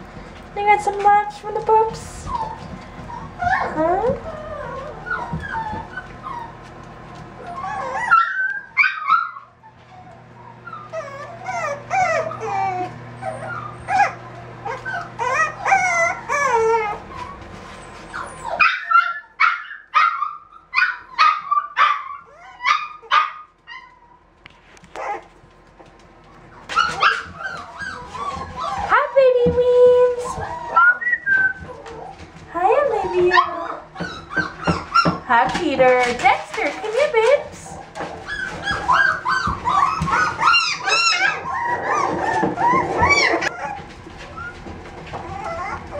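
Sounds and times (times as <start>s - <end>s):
puppies whining: 0.0s - 45.9s
puppies yipping: 1.6s - 24.3s, 24.9s - 29.4s, 30.0s - 45.9s.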